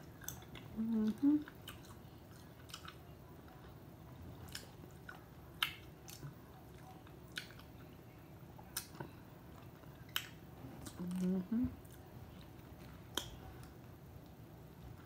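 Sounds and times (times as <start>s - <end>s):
faint chewing: 0.0s - 15.0s.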